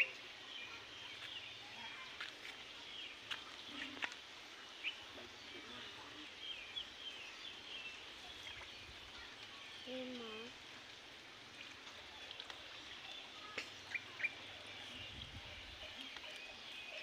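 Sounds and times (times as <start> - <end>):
birds chirping: 0.0 - 17.0
faint outdoor hiss: 0.0 - 17.0.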